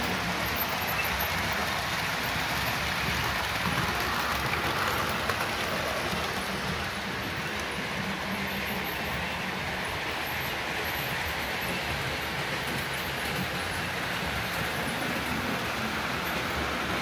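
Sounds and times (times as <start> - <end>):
model train humming: 0.0 - 17.0.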